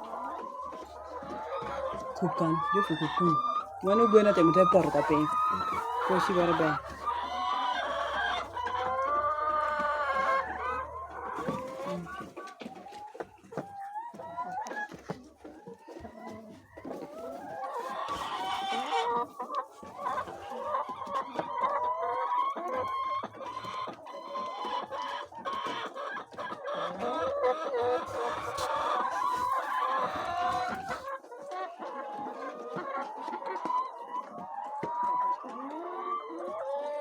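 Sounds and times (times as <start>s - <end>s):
hens clucking: 0.0s - 37.0s.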